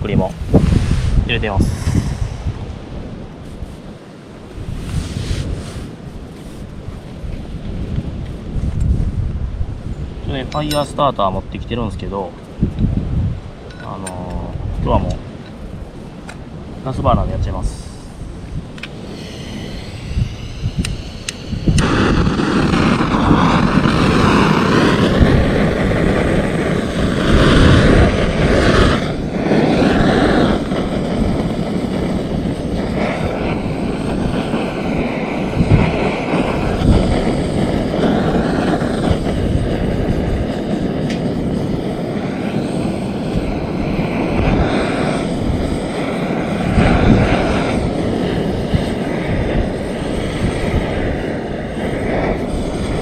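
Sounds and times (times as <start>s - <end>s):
gas torch flame jet: 0.0s - 9.1s, 10.2s - 53.0s.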